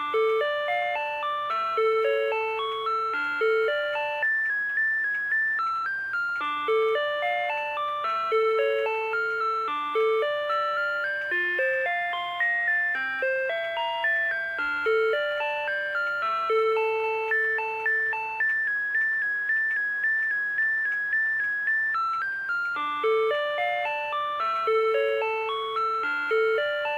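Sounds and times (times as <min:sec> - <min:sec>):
alarm clock chiming melody: 0:00.0 - 0:26.9.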